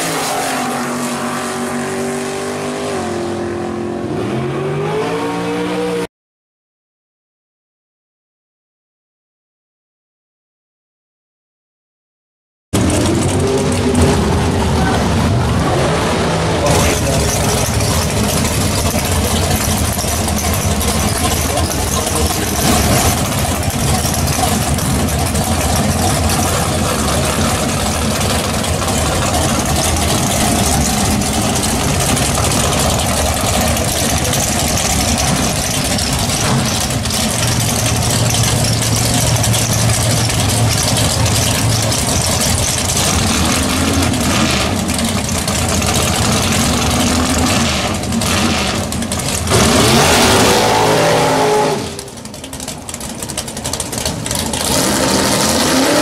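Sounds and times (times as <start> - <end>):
race car engine idling and revving: 0.0 - 6.1, 12.8 - 56.0.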